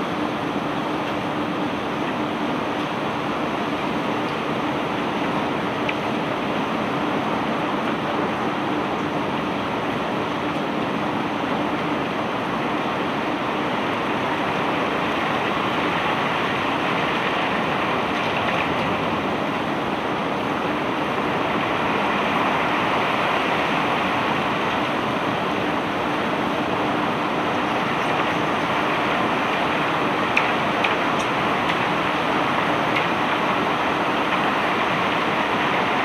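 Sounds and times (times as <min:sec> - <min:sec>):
machinery low hum: 0:00.0 - 0:36.0.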